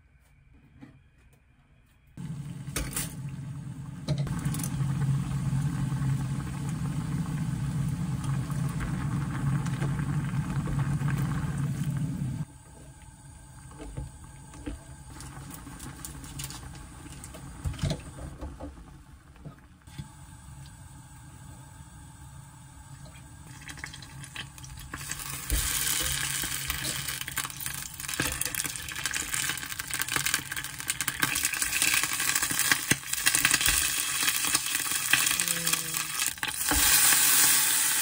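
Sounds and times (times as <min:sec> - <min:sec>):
pot of water boiling: 0:02.2 - 0:38.0.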